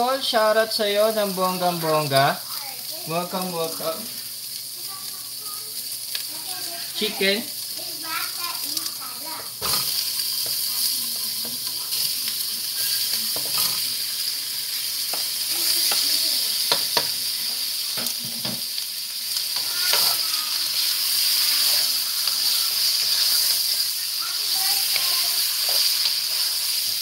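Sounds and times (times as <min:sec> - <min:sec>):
chicken sizzling in oil: 0:00.0 - 0:27.0.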